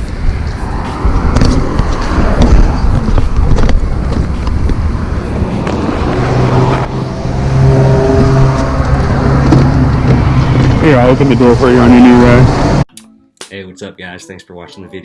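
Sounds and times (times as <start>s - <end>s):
low engine drone: 0.0s - 12.8s
rumbling vehicle noise: 0.0s - 12.9s.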